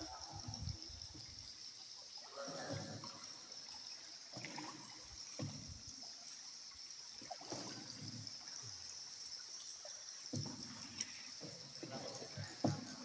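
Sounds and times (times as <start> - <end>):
paddle splashing in water: 2.1 - 13.0.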